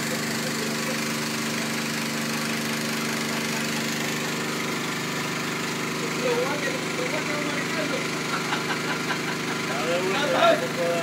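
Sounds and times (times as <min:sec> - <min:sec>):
motorboat engine running steadily: 0:00.0 - 0:11.0.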